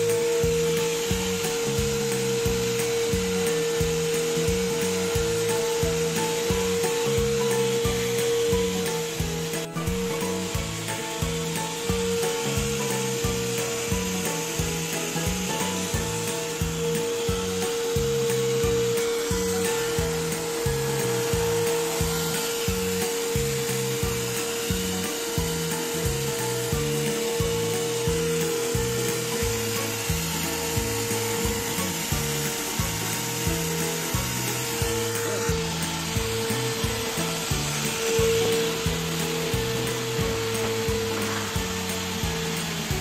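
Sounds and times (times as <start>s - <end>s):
music with steady beat: 0.0s - 43.0s
vacuum cleaner running: 0.0s - 43.0s.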